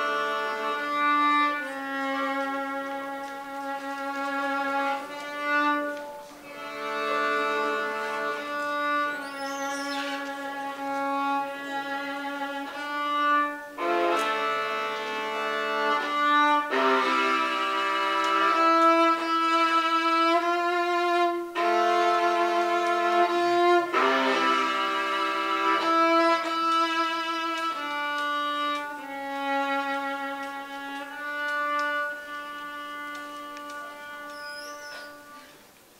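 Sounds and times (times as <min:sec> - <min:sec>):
solo violin playing: 0:00.0 - 0:35.6.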